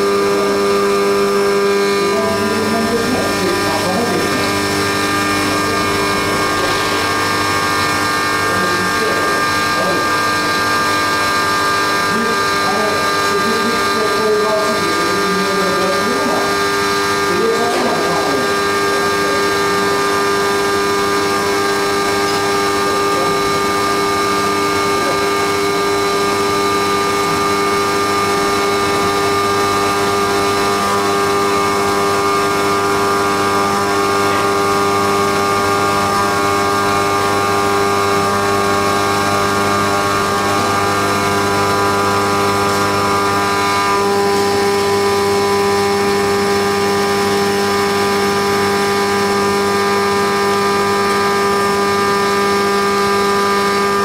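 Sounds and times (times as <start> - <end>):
milling machine hum and whine: 0.0 - 54.0.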